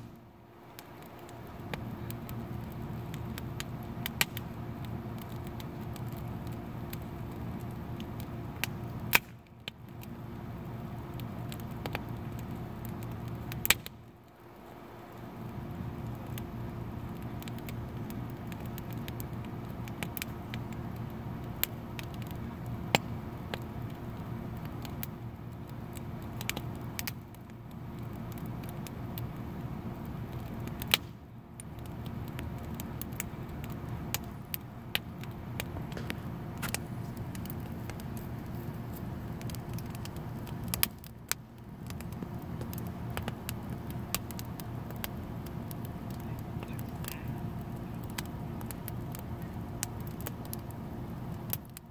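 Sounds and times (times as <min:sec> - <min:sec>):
sharp pops and snaps: 0:00.0 - 0:14.4, 0:15.1 - 0:29.4, 0:30.1 - 0:47.2
wood fire crackling: 0:00.0 - 0:51.9.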